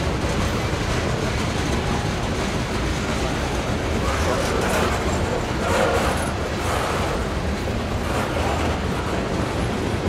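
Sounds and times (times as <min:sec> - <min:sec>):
steel wheels rolling on rails: 0:00.0 - 0:10.0.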